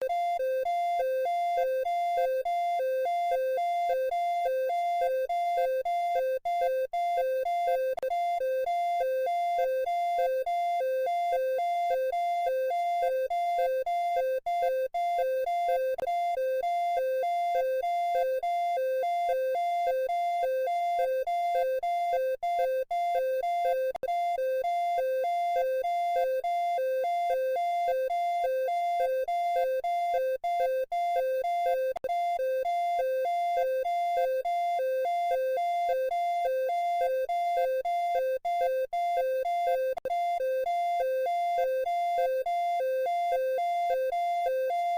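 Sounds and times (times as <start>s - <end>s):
two-tone electronic alarm: 0.1s - 44.9s.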